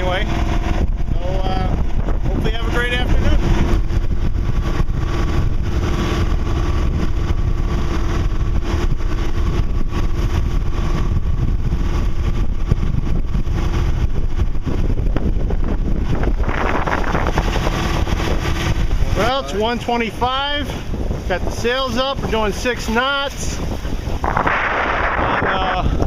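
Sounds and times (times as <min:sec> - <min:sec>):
boat engine droning: 0:00.0 - 0:26.0
wind on microphone: 0:00.0 - 0:26.0.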